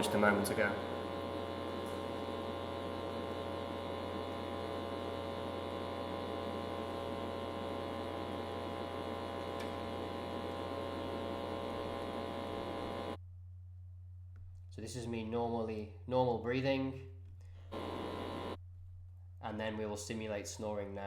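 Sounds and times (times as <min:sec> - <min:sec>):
electrical hum: 0:00.0 - 0:16.1, 0:17.0 - 0:19.9.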